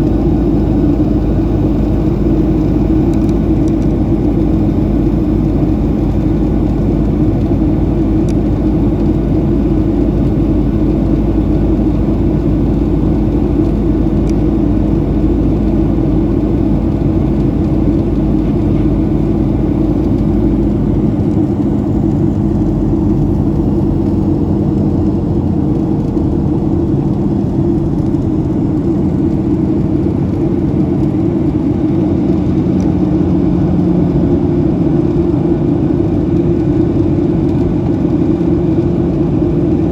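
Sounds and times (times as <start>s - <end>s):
jet cabin roar: 0.0s - 39.9s
low hum: 0.0s - 39.9s.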